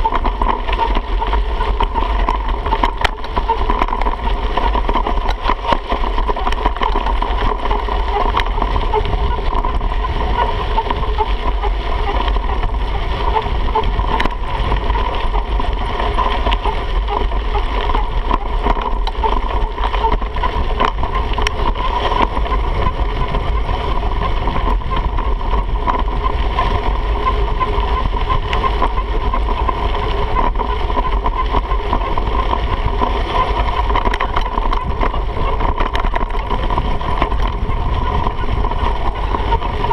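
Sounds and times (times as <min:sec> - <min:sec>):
bike knocks and rattles: 0:00.0 - 0:39.9
tyres rumbling on dirt: 0:00.0 - 0:39.9
wind on microphone: 0:00.0 - 0:39.9.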